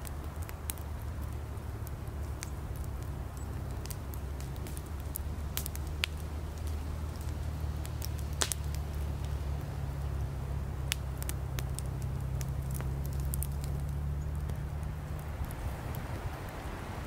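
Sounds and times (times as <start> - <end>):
sharp pops from burning firewood: 0.0 - 16.9
campfire crackling: 0.0 - 17.0.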